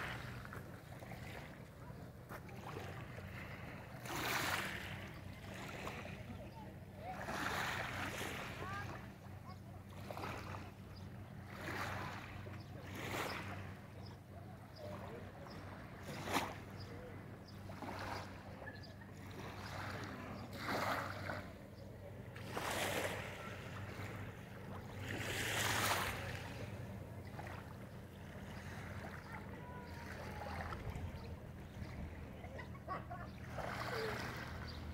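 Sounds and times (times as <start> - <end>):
small waves lapping on shore: 0.0 - 34.9.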